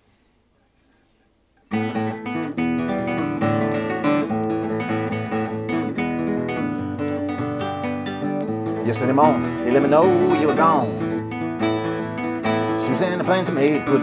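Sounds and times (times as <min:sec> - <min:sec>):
nylon-string guitar playing: 0:01.7 - 0:14.0.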